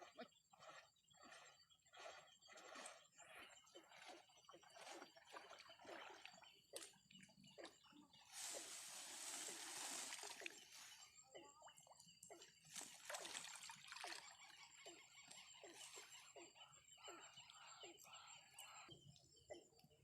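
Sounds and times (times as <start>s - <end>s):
floodwater splashing and sloshing: 0.0s - 17.2s.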